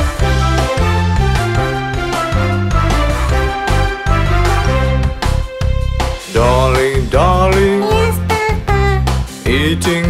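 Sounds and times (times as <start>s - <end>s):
upbeat instrumental cartoon music: 0.0s - 10.0s.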